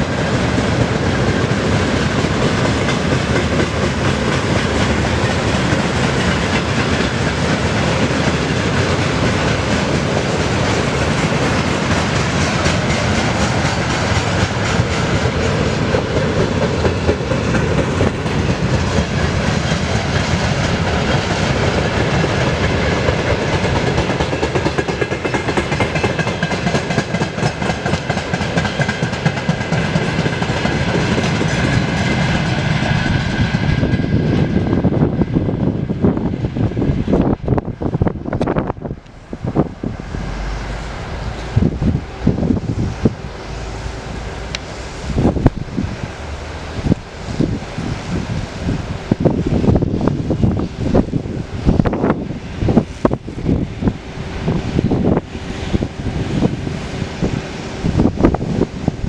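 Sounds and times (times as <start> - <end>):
freight train wagons rolling: 0.0 - 59.0
wheels clacking over rail joints: 0.0 - 59.0.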